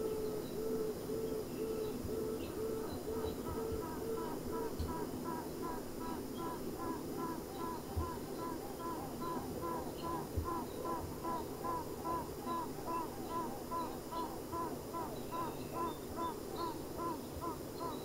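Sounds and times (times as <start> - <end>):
low hum of bee colony: 0.0 - 18.0.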